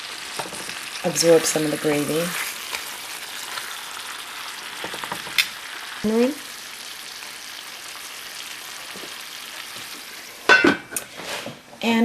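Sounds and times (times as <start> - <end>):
food sizzling in a skillet: 0.0 - 11.7.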